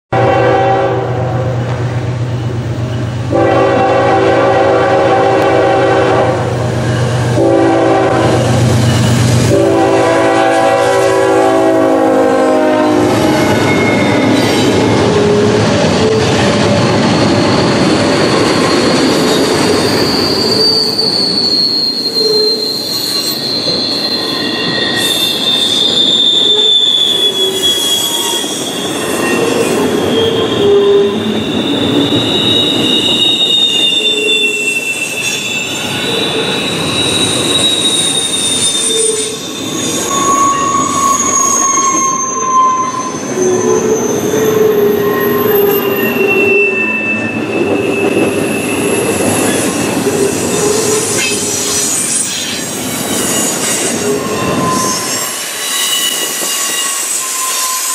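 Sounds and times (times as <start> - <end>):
freight train rumbling past: 0.1 - 57.9
high-pitched wheel squeals: 5.0 - 57.9.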